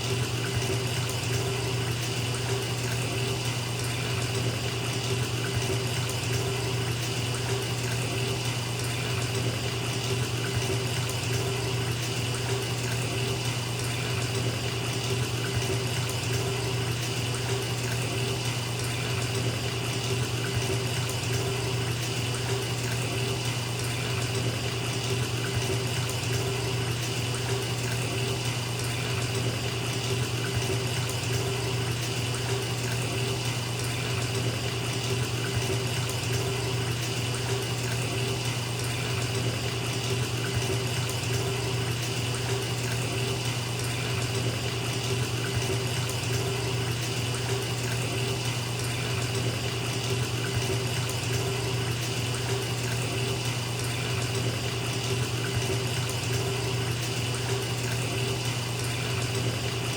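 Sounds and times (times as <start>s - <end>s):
water running into a bathtub: 0.0s - 59.9s.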